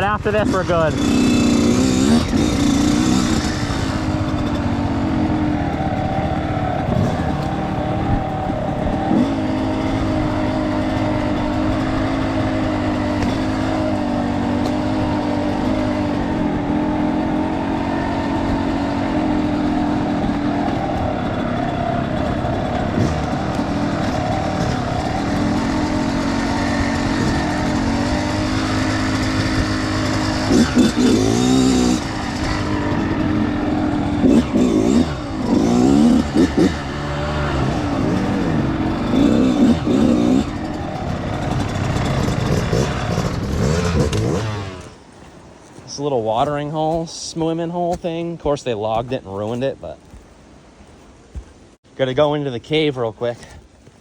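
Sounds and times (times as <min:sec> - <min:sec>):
dirt bike motor: 0:00.0 - 0:54.0.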